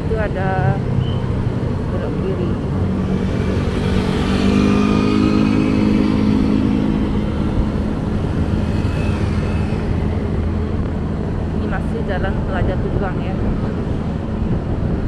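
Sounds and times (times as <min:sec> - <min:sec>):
road noise rush: 0:00.0 - 0:15.0.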